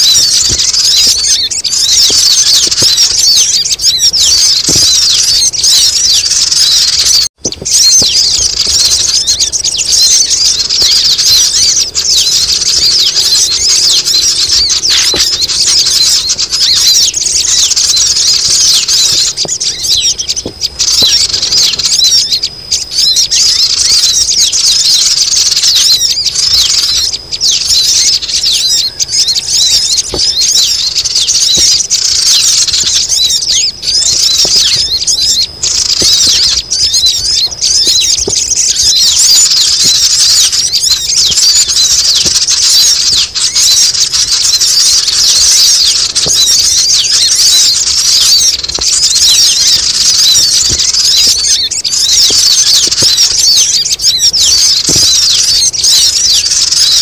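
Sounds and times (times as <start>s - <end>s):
chorus of chirping birds: 0.0s - 57.0s.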